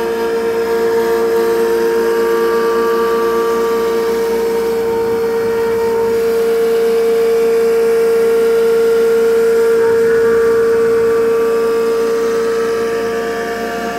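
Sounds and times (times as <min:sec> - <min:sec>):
milling spindle whine: 0:00.0 - 0:13.9.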